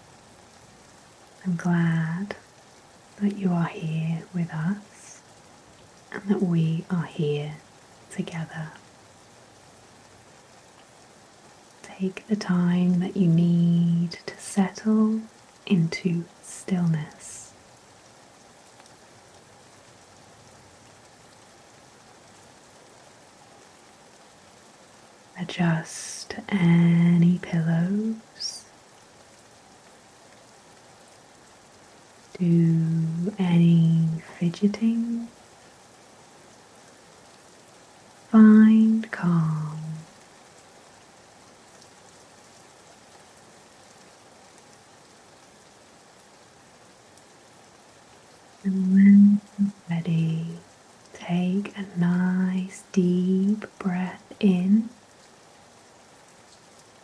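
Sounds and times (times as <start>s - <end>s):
soft steady rain: 0.0s - 57.0s.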